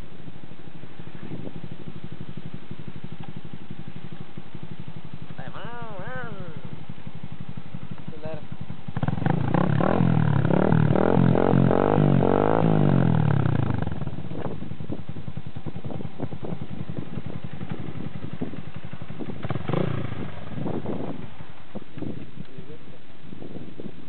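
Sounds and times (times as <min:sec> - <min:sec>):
motorcycle engine passing: 0:00.0 - 0:23.9.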